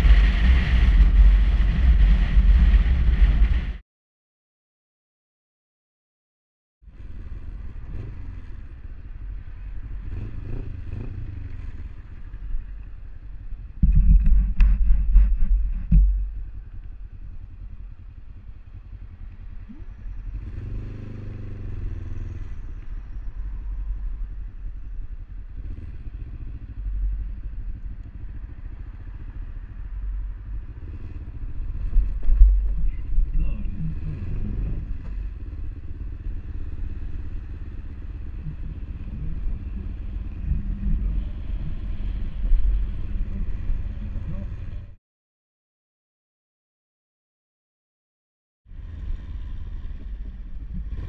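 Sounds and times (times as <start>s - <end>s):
motorcycle engine: 0.0s - 3.8s, 6.9s - 45.0s.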